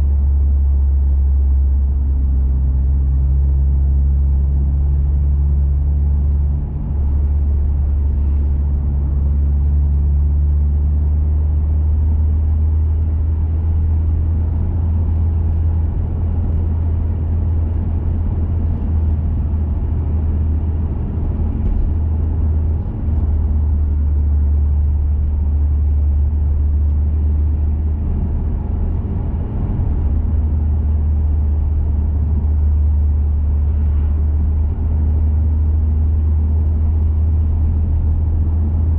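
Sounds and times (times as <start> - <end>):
car exhaust deep drone: 0.0 - 38.9
road and tyre noise: 0.0 - 38.9.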